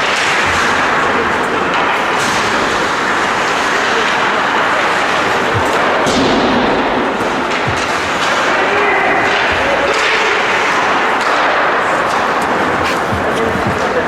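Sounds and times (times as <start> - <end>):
rink noise rushing: 0.0 - 14.0
sharp knocks of sticks and puck: 0.0 - 14.0.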